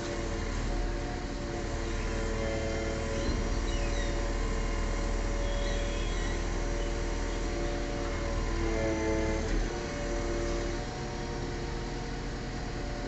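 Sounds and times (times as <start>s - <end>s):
crane engine humming: 0.0s - 13.0s.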